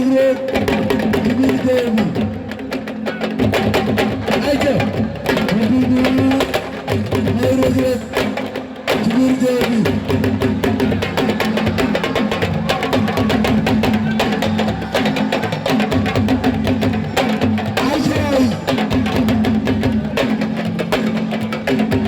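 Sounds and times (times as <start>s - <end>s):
fast dense drumming: 0.0s - 22.0s.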